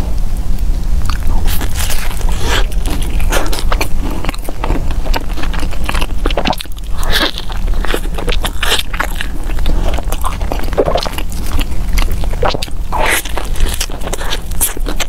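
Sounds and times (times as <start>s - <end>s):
low hum: 0.0s - 15.0s
biting and chewing food: 1.0s - 15.0s.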